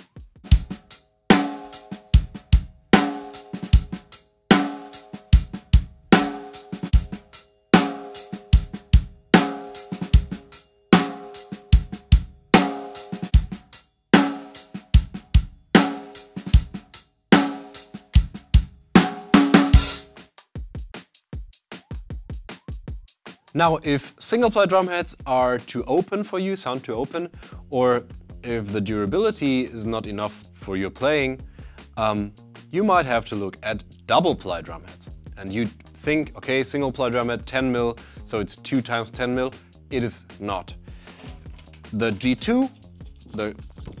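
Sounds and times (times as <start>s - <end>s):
drum kit groove: 0.0s - 44.0s
fast drum fill: 0.0s - 44.0s.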